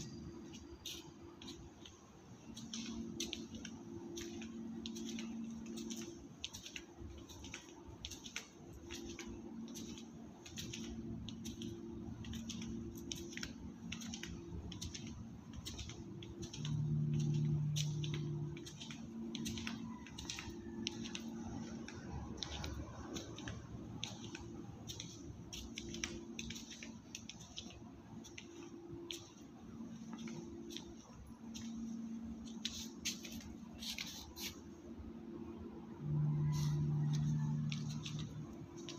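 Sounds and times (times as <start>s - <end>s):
footsteps on concrete floor: 0.0s - 35.0s, 36.0s - 38.9s
machine hum: 0.0s - 38.9s.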